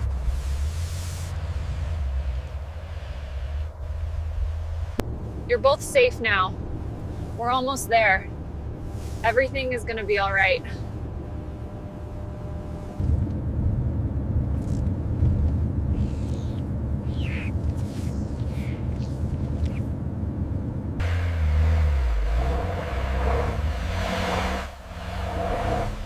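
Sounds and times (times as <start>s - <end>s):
wavering motor-like hum: 0.0s - 13.8s, 15.9s - 26.0s
loud low rumble: 0.0s - 26.0s.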